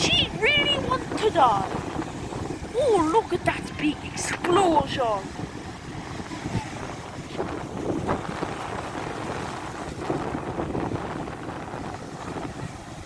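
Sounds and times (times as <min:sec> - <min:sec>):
waves breaking: 0:00.0 - 0:13.0
wind buffeting microphone: 0:00.0 - 0:13.0.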